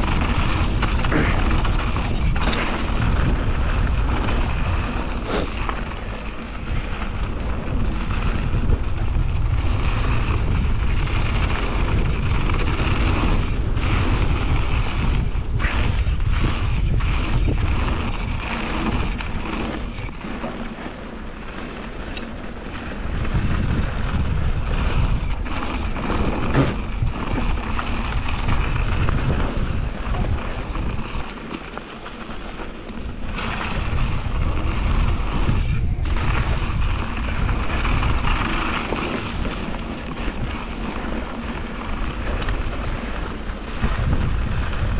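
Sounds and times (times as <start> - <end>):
bike knocks and rattles: 0.0 - 44.9
bike tyre noise on dirt: 0.0 - 44.9
wind buffeting microphone: 0.0 - 44.9.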